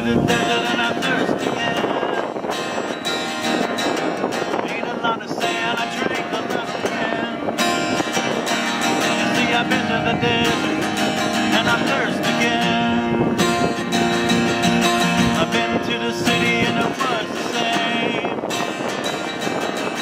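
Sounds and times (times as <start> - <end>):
acoustic guitar strummed: 0.0 - 20.0.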